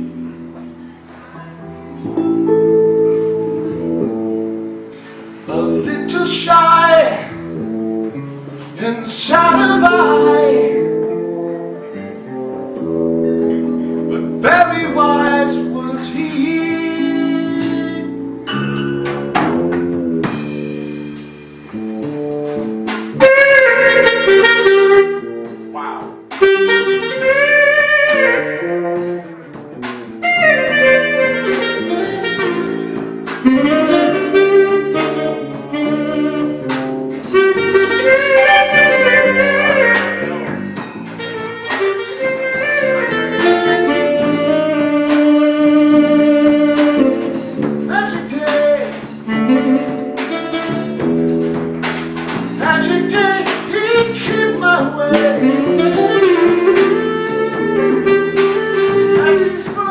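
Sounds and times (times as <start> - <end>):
jazz band playing: 0.0 - 59.9
lead melody with bending notes: 0.0 - 59.9.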